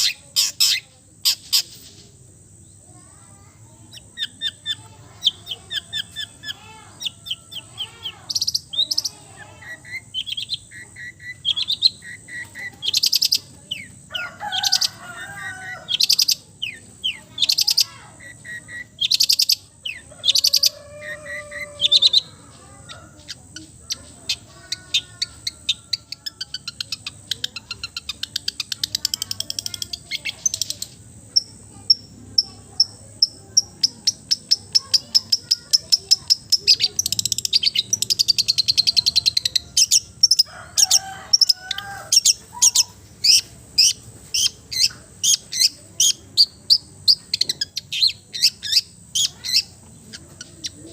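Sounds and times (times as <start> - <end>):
shrike singing: 0.0 - 1.9, 3.4 - 50.9.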